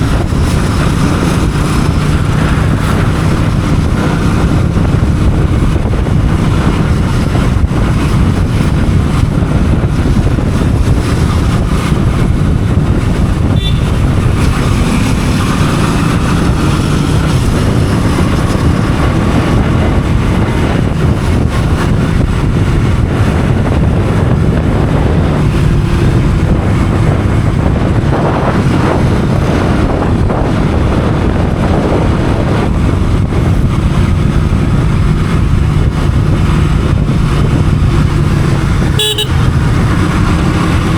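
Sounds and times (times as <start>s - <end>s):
motorcycle engine drone: 0.0s - 40.9s
wind rushing over microphone: 0.0s - 40.9s.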